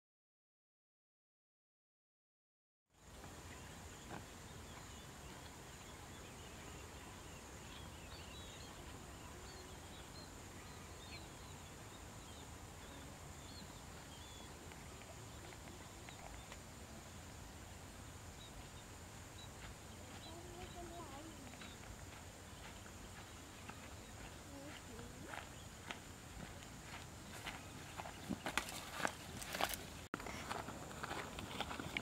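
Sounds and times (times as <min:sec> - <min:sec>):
high insect drone: 0:03.0 - 0:30.0
small birds chirping: 0:03.0 - 0:32.0.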